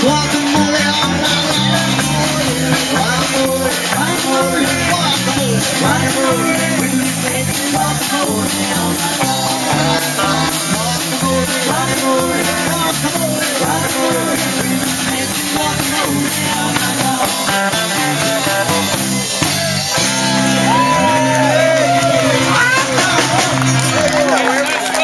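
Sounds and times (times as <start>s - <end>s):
person singing: 0.0s - 24.3s
steady drum beat: 0.0s - 24.4s
electric guitar: 0.0s - 25.0s.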